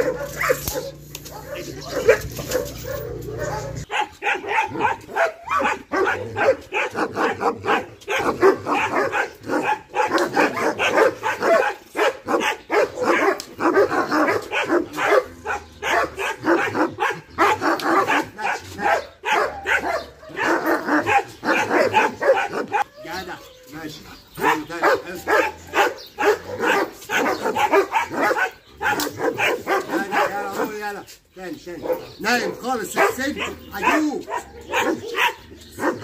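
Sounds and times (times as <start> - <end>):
dogs barking and yipping: 0.0 - 36.0.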